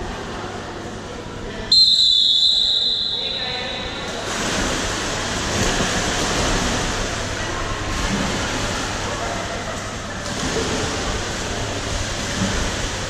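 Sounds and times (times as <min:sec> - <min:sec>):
swimmers splashing: 0:00.0 - 0:13.0.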